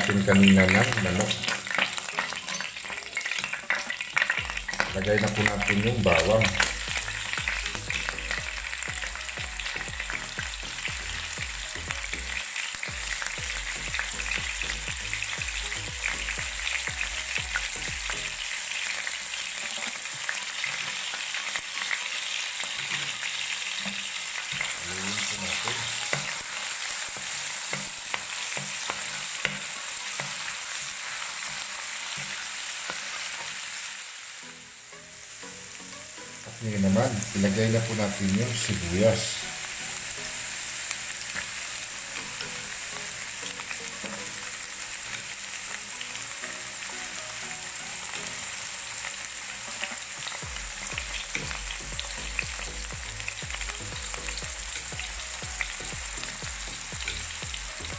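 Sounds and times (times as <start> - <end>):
garlic sizzling in oil: 0.0 - 57.9.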